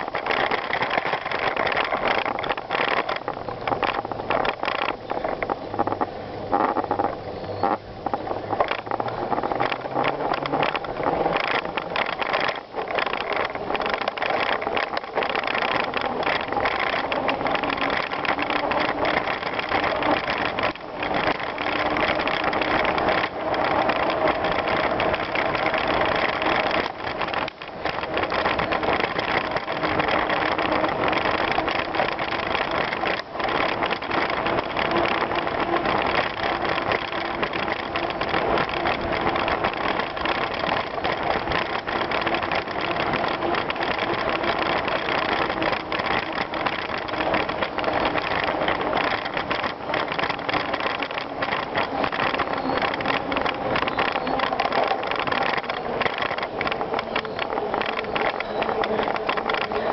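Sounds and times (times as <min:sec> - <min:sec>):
bicycle tyres on gravel: 0:00.0 - 0:59.9
bike rattling over ground: 0:00.0 - 0:59.9.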